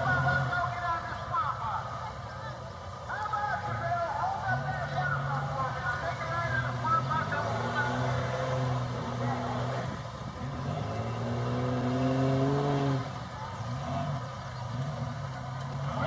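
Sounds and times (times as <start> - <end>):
truck engine revving: 0.0 - 1.5, 3.7 - 16.0.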